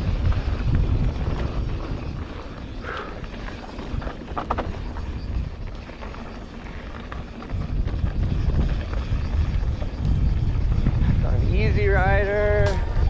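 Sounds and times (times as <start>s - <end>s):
bike tyres rolling on gravel: 0.0s - 13.0s
wind buffeting microphone: 0.0s - 13.0s.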